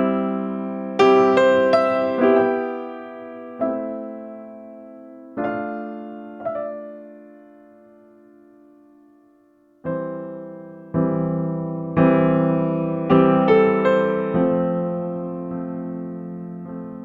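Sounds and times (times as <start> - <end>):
soft slow piano chords: 0.0 - 17.0.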